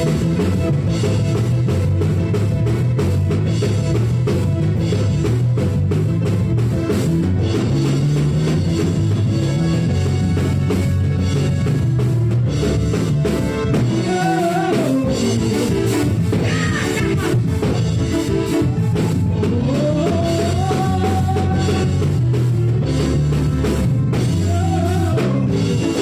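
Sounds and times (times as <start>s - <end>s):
drum kit beat: 0.0s - 26.0s
sustained bass notes: 0.0s - 26.0s.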